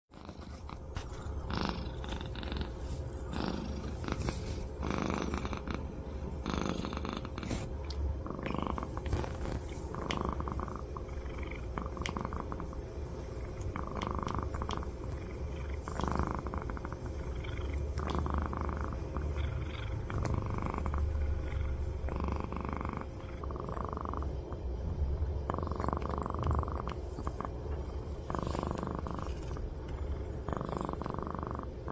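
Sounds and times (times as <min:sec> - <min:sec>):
cat purring: 0:00.1 - 0:31.9.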